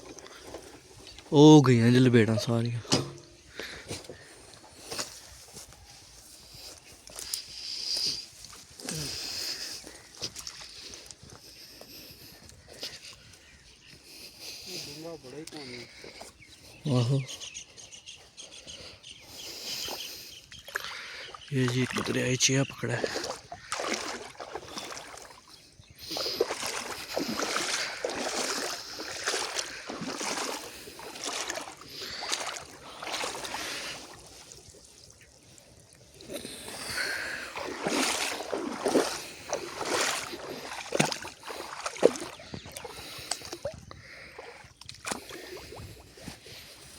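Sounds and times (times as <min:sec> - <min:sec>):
water splashing and swishing: 0:00.0 - 0:14.0, 0:19.3 - 0:46.9.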